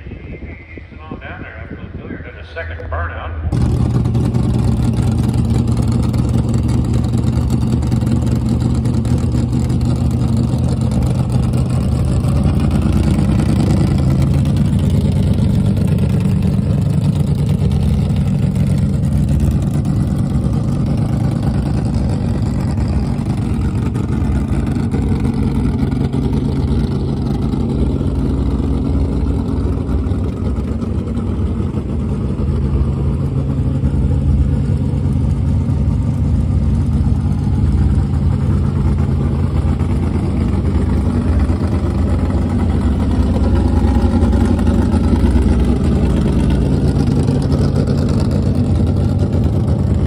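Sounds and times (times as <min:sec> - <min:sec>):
car engine running: 0:00.1 - 0:50.0.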